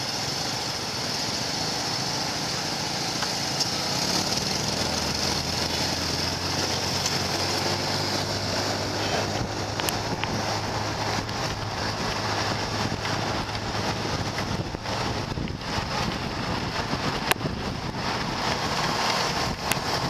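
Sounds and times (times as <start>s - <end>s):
motorbike engine hum: 0.0s - 20.0s
wind buffeting microphone: 0.0s - 20.0s.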